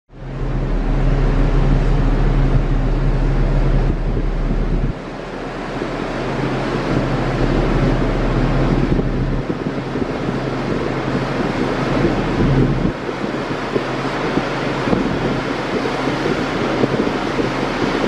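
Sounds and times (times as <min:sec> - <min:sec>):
low drone of passing ship: 0:00.1 - 0:18.0
wind buffeting microphone: 0:00.1 - 0:18.0.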